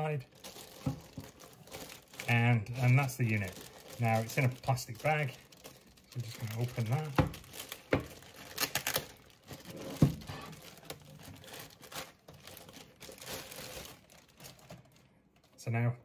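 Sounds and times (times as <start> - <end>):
plastic bag crinkling and tearing: 0.1 - 15.7.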